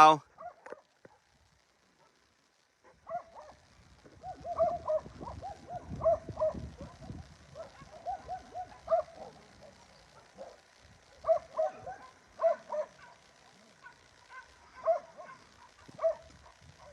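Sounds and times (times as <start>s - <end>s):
dogs barking: 0.2s - 16.9s.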